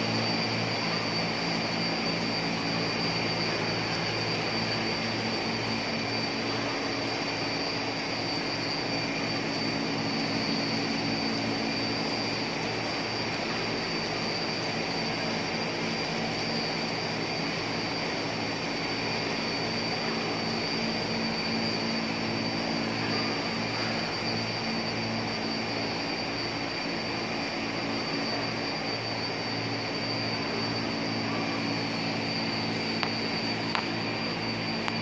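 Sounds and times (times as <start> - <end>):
high-pitched whine: 0.0 - 35.0
machine drone and hum: 0.0 - 35.0.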